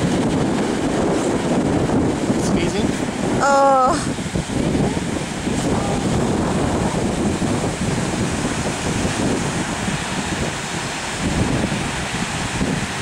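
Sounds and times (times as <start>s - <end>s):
surf washing onto rocks: 0.0s - 13.0s
wind buffeting microphone: 0.0s - 13.0s.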